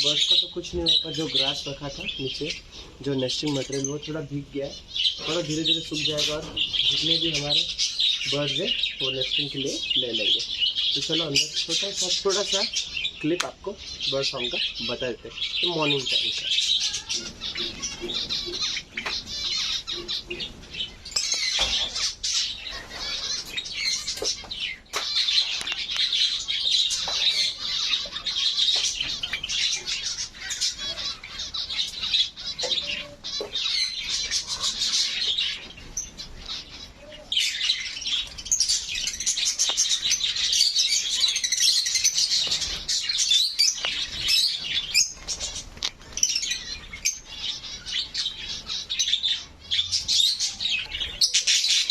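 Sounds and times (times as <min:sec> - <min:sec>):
flock of small birds chirping: 0:00.0 - 0:51.9.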